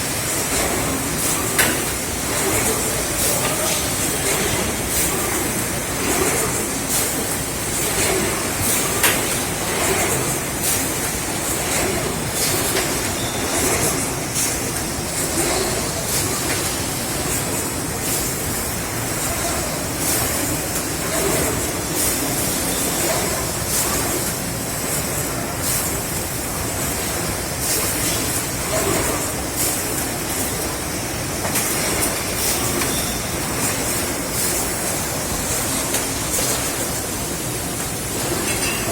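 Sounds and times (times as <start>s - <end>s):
factory machinery din: 0.0s - 38.9s.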